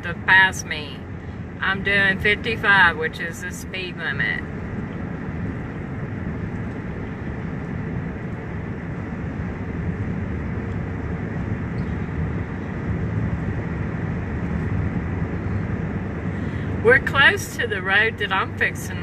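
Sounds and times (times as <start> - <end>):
tyre and engine rumble: 0.0 - 19.0.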